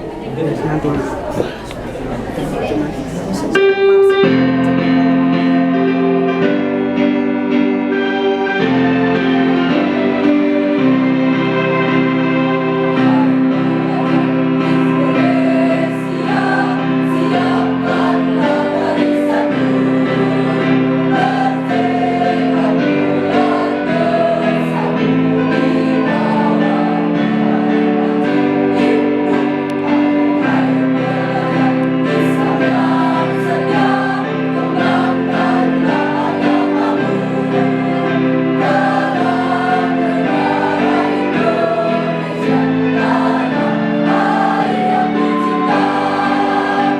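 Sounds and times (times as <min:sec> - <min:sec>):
choir singing chords: 0:00.0 - 0:46.9.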